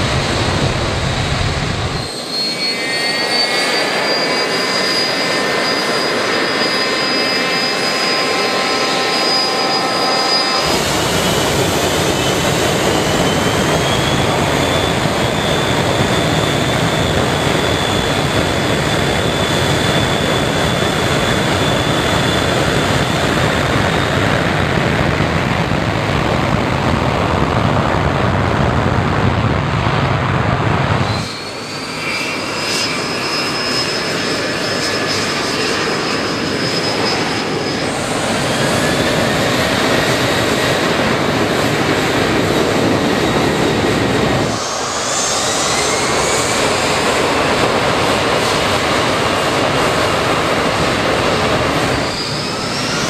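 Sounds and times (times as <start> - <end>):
jet engine roar: 0.0 - 53.0
jet engines whining: 0.0 - 53.0.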